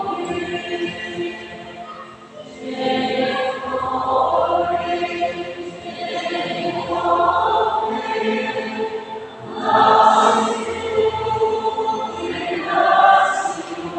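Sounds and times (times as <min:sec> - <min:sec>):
choir singing sustained notes: 0:00.0 - 0:13.9.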